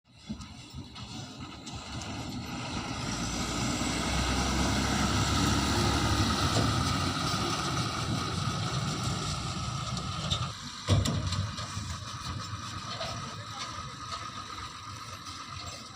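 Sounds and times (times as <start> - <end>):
heavy diesel engine running: 0.1 - 15.9.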